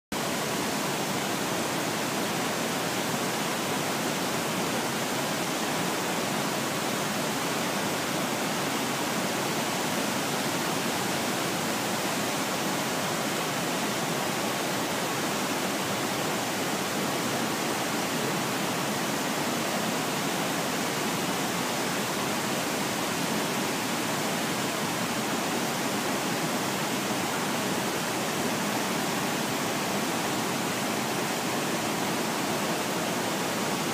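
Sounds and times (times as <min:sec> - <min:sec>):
whitewater rushing over rocks: 0:00.2 - 0:33.9.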